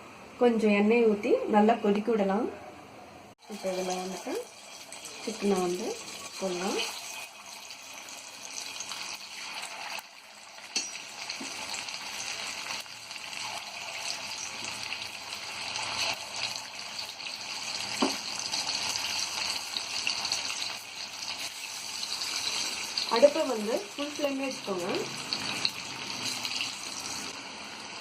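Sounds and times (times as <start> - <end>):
chicken frying in oil: 3.4 - 28.0.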